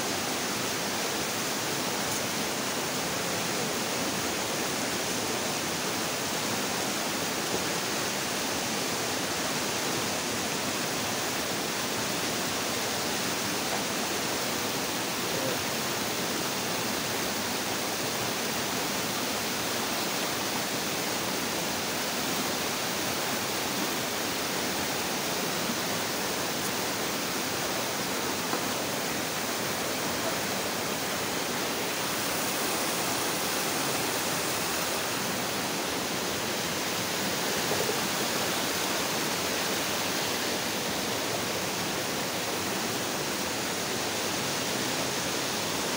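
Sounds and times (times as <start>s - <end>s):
river flowing over rapids: 0.0s - 45.9s.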